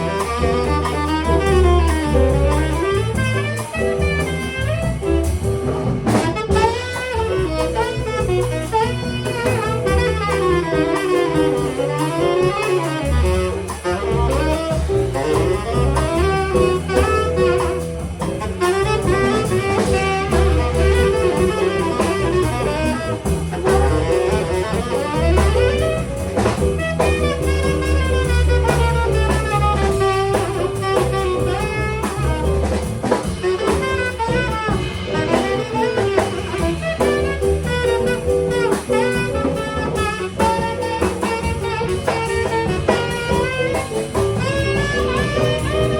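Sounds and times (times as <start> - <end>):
drum kit: 0.0 - 45.9
saxophone melody: 0.0 - 45.9
upright bass: 0.0 - 45.9.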